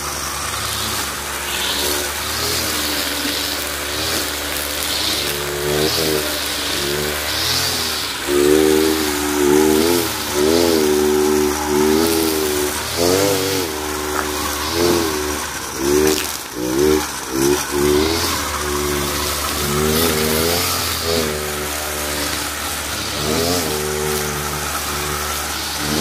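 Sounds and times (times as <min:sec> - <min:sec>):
brush cutter engine revving: 0:00.0 - 0:26.0
cutting head hissing through grass: 0:00.0 - 0:26.0.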